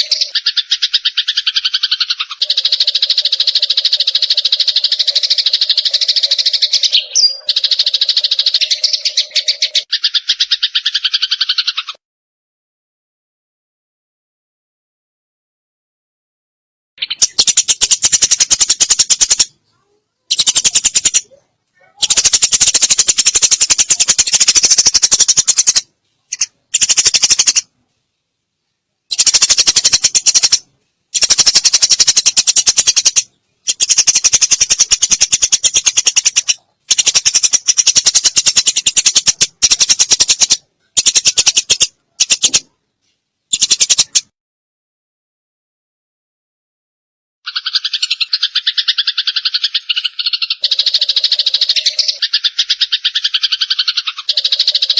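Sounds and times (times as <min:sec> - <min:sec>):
sparrows chattering: 0:00.0 - 0:12.0, 0:17.0 - 0:27.7, 0:29.1 - 0:42.7, 0:43.5 - 0:44.3, 0:47.5 - 0:54.9.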